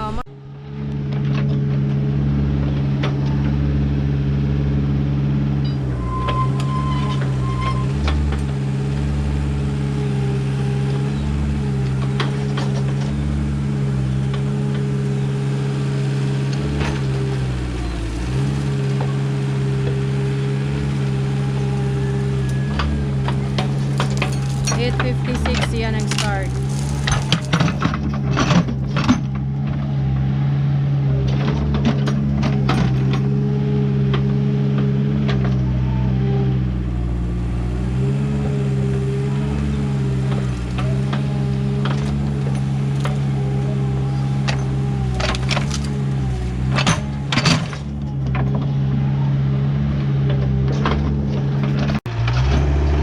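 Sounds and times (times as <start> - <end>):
backhoe engine running: 0.0 - 53.0.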